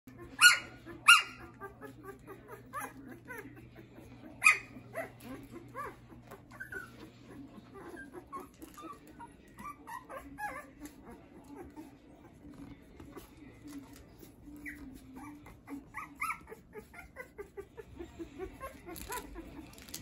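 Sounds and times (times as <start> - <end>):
puppies whimpering and squeaking: 0.1 - 20.0.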